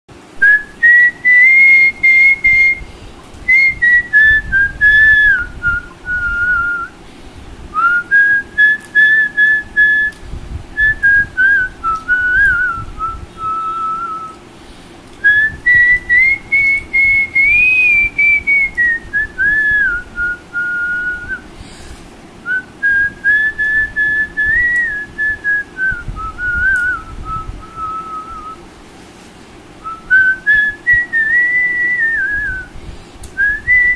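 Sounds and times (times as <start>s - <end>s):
man whistling a melody: 0.4s - 7.0s, 7.7s - 10.2s, 10.8s - 14.4s, 15.2s - 21.5s, 22.4s - 28.6s, 29.8s - 32.7s, 33.4s - 33.9s.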